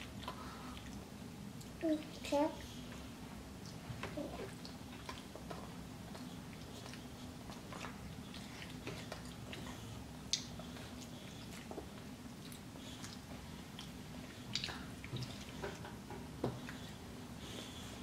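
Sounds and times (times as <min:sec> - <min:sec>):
children chewing food: 0:00.0 - 0:18.0
steady low hum: 0:00.0 - 0:18.0.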